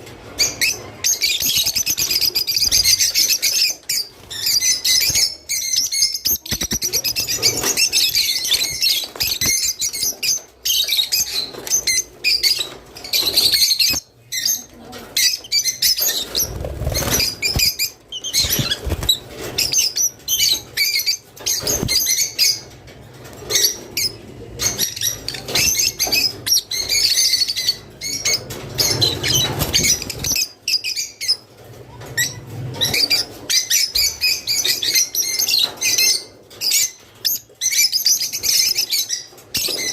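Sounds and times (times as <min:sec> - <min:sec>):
lovebirds chattering: 0:00.3 - 0:39.9.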